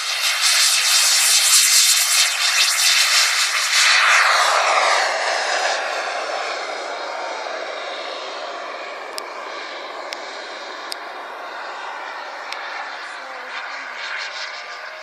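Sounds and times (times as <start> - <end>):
model jet engine rush: 0.0 - 15.0.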